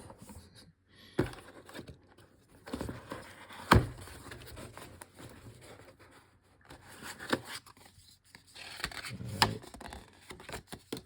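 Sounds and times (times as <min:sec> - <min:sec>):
cardboard packaging rustling: 0:01.2 - 0:11.0.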